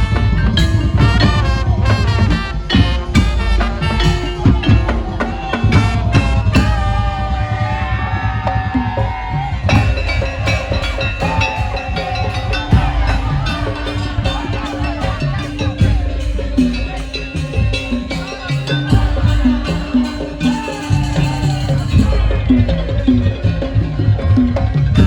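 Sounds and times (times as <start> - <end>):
drum and percussion beat: 0.0 - 25.0.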